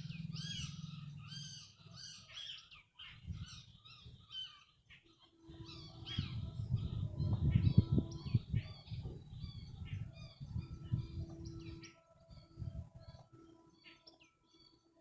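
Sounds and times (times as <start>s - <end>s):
wind buffeting microphone: 0.0s - 4.6s, 5.4s - 13.8s
birds chirping and calling: 0.0s - 15.0s.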